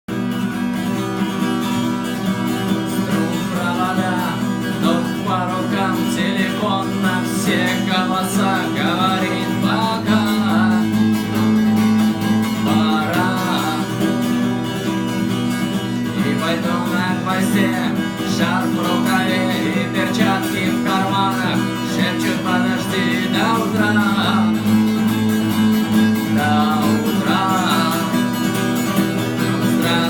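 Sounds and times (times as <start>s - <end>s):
acoustic guitar strumming: 0.1s - 30.0s
person singing: 1.8s - 30.0s.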